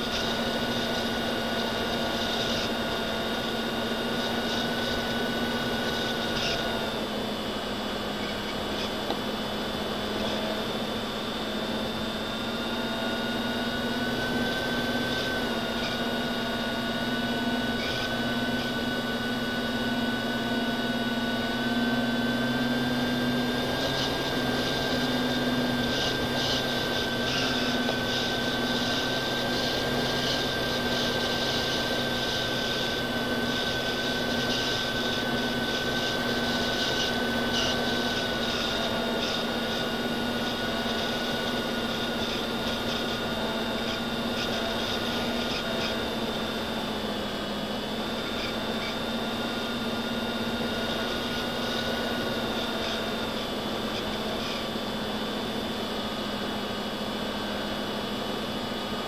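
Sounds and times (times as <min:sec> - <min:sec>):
electric motors and propellers whining: 0:00.0 - 0:59.0.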